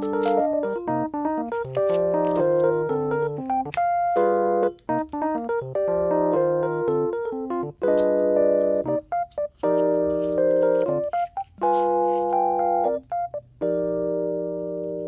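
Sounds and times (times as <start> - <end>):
piano-like keyboard music: 0.0 - 15.0.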